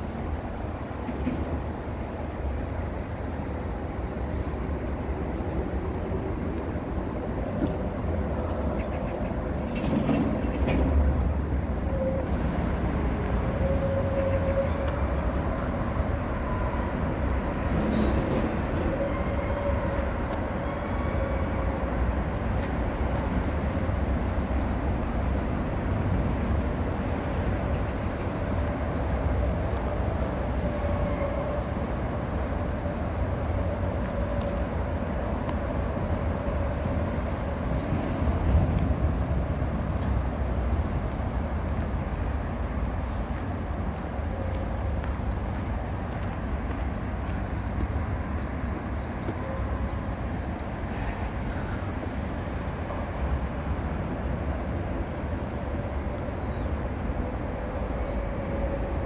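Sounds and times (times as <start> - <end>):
road traffic drone: 0.0 - 59.0.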